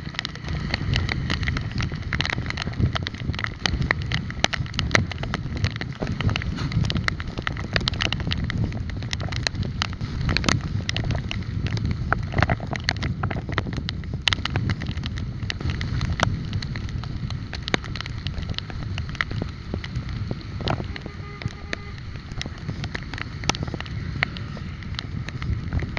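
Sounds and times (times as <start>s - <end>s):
bike clicks and rattles: 0.0s - 25.9s
wind buffeting microphone: 0.0s - 25.9s.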